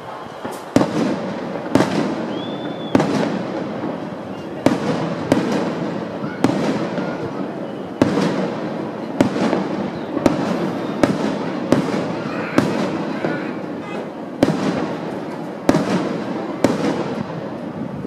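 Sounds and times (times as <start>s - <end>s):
continuous firework noise: 0.0s - 18.0s
firework shells booming: 0.0s - 18.0s.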